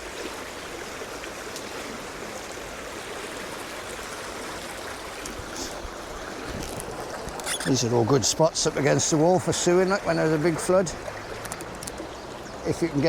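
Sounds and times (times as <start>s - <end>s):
stream water over stones: 0.0s - 13.0s.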